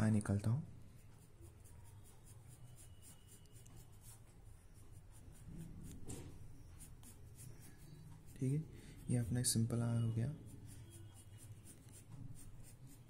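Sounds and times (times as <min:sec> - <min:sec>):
pencil sketching on paper: 0:00.8 - 0:13.0.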